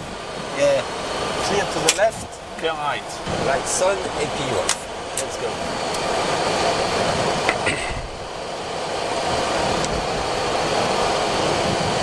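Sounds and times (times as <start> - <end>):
jet engines at low thrust: 0.0 - 12.0
rush of cabin air: 0.0 - 12.0.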